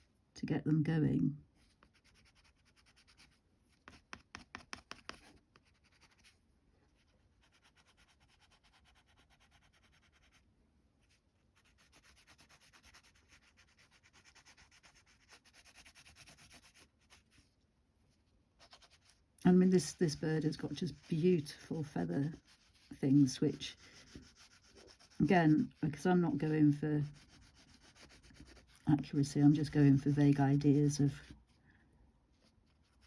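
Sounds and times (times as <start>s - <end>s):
crayon scratching on paper: 1.6s - 10.4s, 11.0s - 17.4s, 18.6s - 31.4s, 32.4s - 33.0s.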